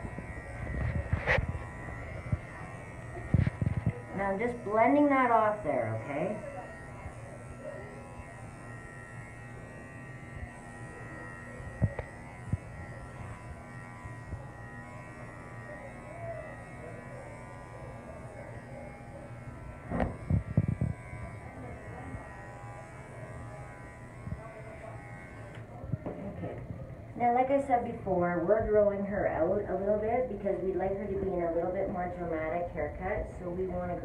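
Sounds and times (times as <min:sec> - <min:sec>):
electric clipper humming: 0:00.0 - 0:34.0.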